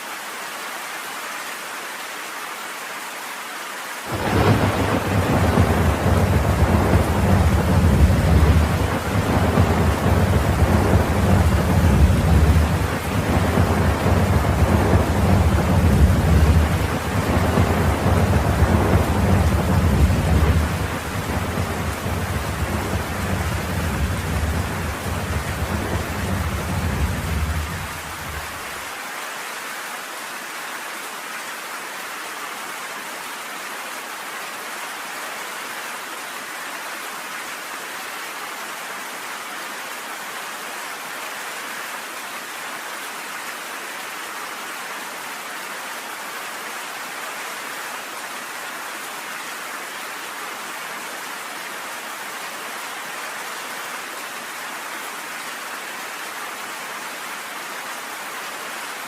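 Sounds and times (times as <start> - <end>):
heavy rain on a porch: 0.0 - 59.0.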